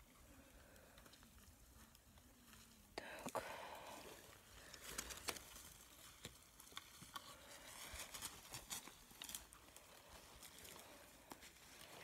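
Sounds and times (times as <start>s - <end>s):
rustling through grass and plants: 0.0s - 12.0s.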